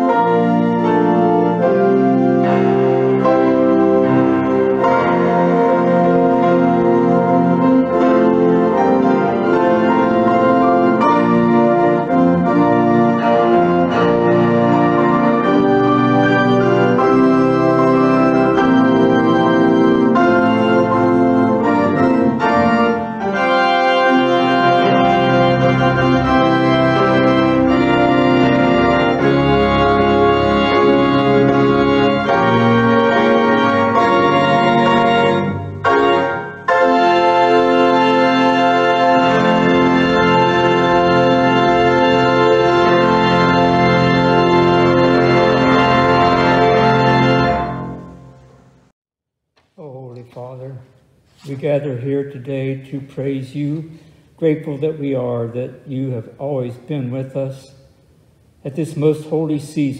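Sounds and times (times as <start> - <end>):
organ playing slow chords: 0.0 - 48.9, 51.2 - 59.9.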